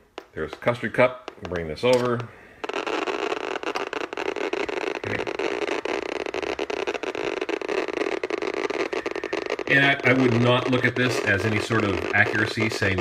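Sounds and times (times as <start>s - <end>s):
geiger counter clicking fast: 0.0s - 13.0s.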